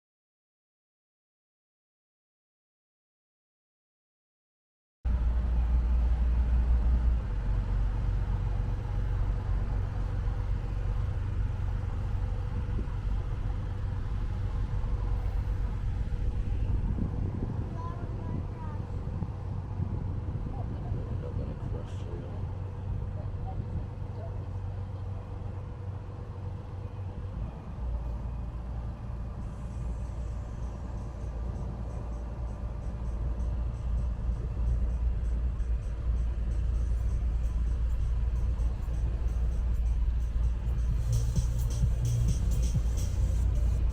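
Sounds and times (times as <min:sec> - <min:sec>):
boat engine rumble: 0:05.1 - 0:43.9.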